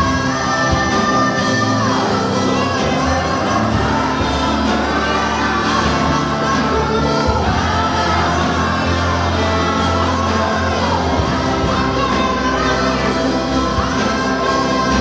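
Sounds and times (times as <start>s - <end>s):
gospel band music: 0.0s - 15.0s
group singing: 0.0s - 15.0s
sustained bass notes: 0.0s - 15.0s.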